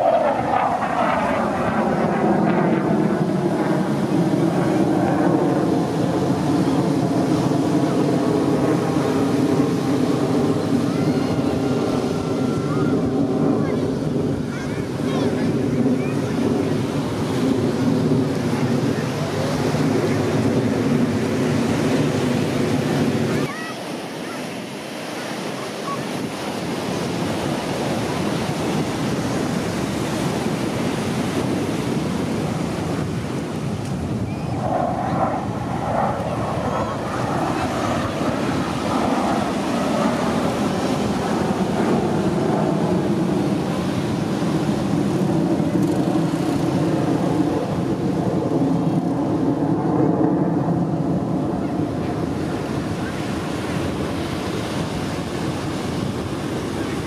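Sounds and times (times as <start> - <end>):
jet engines roaring: 0.0 - 57.0
wind noise on microphone: 0.0 - 57.0.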